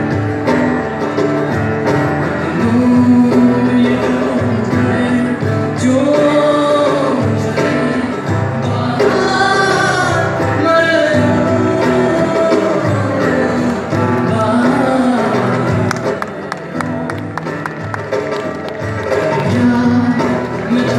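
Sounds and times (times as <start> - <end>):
guitars playing: 0.0 - 20.9
person singing: 1.8 - 18.0, 19.0 - 20.9.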